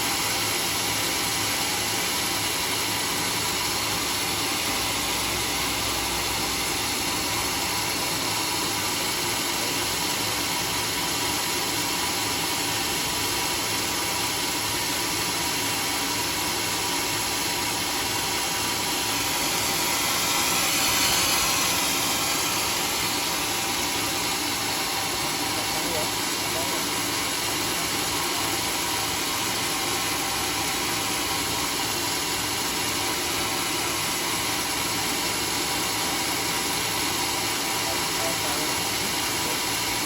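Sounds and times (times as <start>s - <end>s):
sawmill machinery running: 0.0s - 40.0s.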